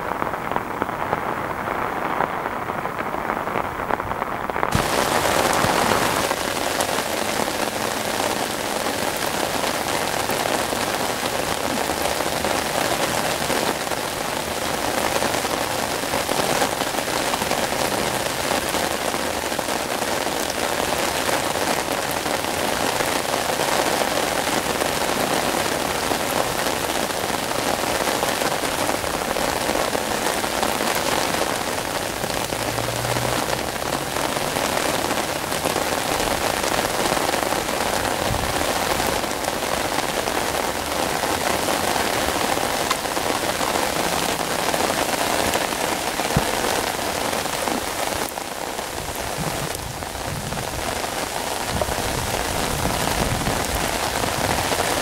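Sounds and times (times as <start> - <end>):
rain pattering on water: 0.0 - 55.0.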